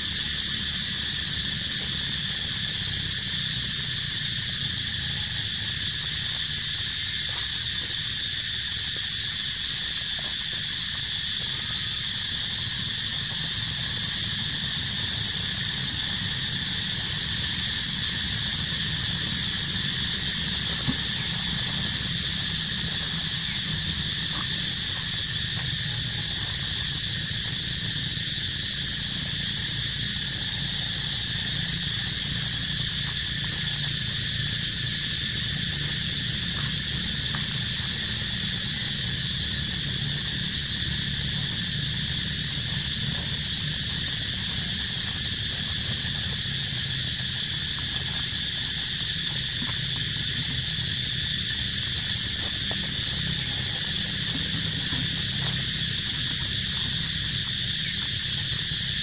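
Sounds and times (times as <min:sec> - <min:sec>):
shrill insect chorus: 0:00.0 - 0:59.0.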